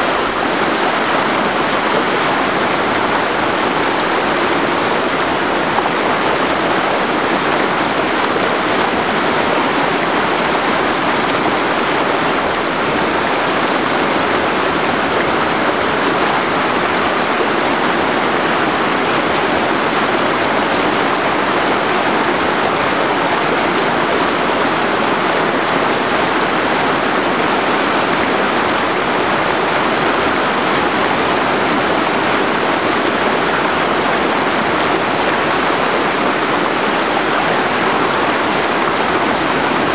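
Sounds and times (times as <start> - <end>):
whitewater rapid rushing: 0.0 - 39.9.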